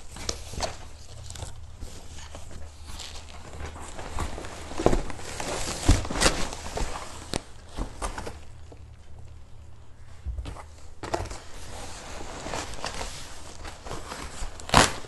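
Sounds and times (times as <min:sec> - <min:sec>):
cardboard rustling and scraping: 0:00.0 - 0:08.8, 0:10.2 - 0:15.0.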